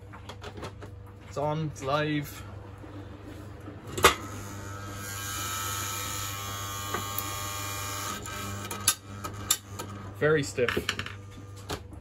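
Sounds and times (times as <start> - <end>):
heater fan motor buzzing: 0.7 - 12.0.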